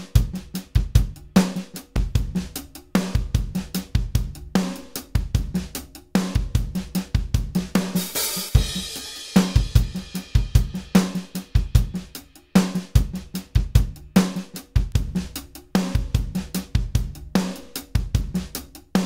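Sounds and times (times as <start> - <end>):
drum kit groove: 0.0 - 19.0.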